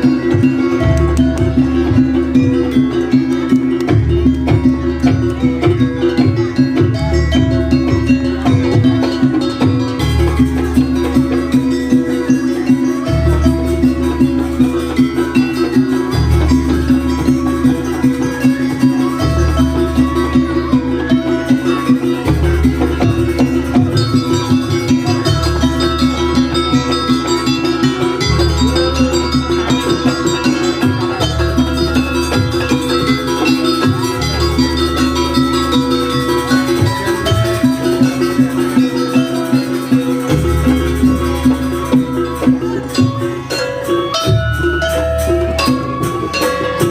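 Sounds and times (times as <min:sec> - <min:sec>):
gamelan music: 0:00.0 - 0:46.9
traditional percussion ensemble: 0:00.0 - 0:46.9.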